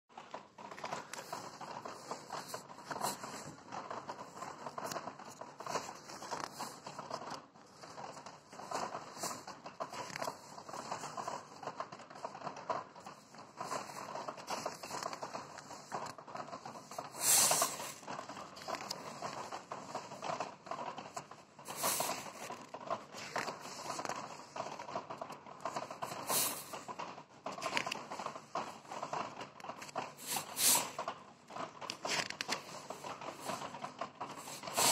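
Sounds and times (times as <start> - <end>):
paper rustling: 0.3 - 34.9
page flips: 0.6 - 12.4, 13.0 - 34.9.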